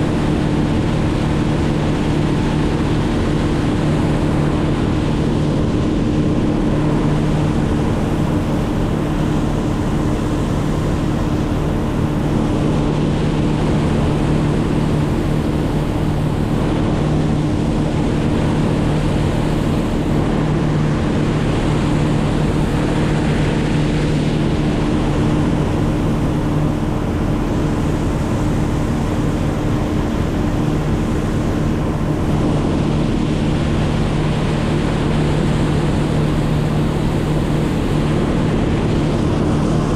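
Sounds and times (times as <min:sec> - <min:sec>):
motor droning: 0:00.0 - 0:39.9
steady rushing noise: 0:00.0 - 0:39.9.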